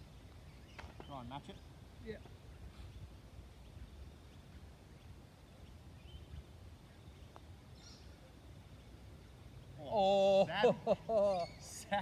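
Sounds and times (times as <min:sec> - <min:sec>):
faint bird chirps: 0:00.0 - 0:10.3, 0:11.2 - 0:12.0.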